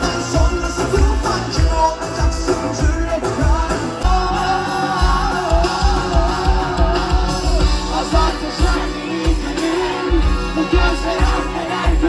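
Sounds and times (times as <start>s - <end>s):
live pop band: 0.0s - 12.0s
man singing: 0.0s - 12.0s.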